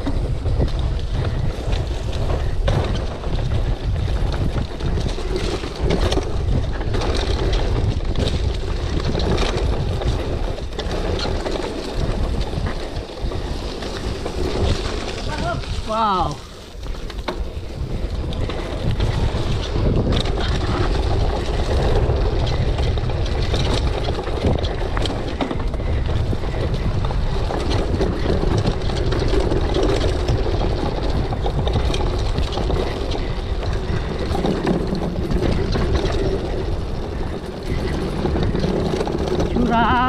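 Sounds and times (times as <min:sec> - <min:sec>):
bike rattling: 0:00.0 - 0:40.0
wind on microphone: 0:00.0 - 0:40.0.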